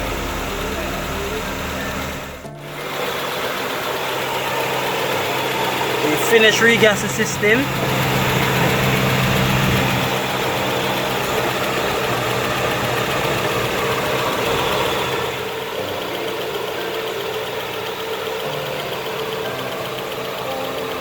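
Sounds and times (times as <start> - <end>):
ac compressor running: 0.0 - 21.0
car engine idling: 0.0 - 21.0.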